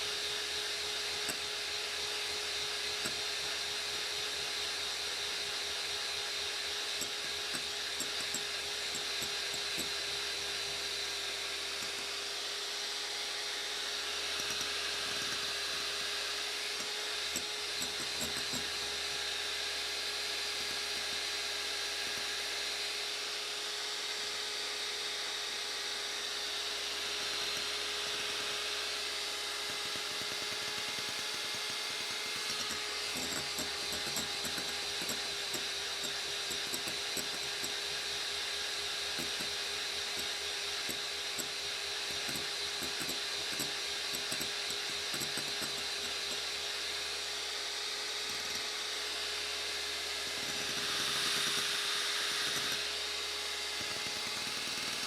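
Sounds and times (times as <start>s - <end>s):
electric hand mixer whining: 0.0s - 55.0s.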